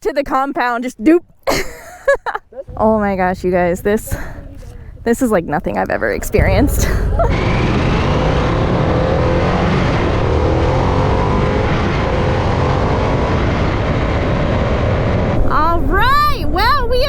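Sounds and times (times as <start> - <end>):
motorcycle engine accelerating: 2.7 - 17.0.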